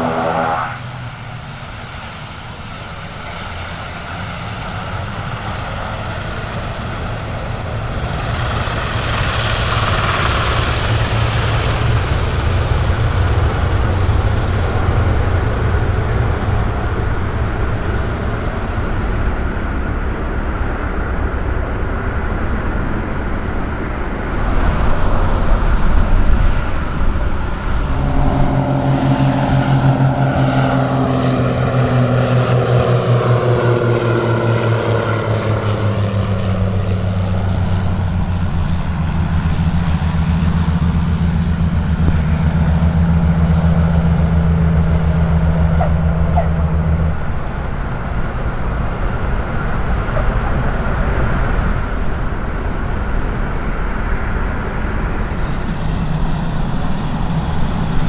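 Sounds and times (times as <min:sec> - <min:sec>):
aircraft engines passing: 0:00.0 - 0:58.0.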